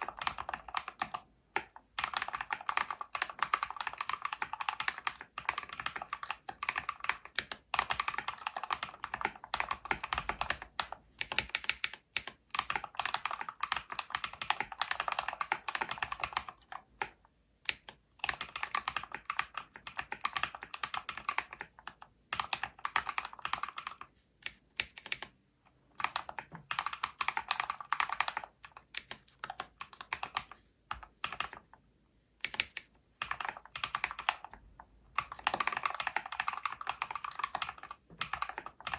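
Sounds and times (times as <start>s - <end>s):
mechanical keyboard typing: 0.0s - 25.4s, 26.0s - 31.8s, 32.4s - 38.9s.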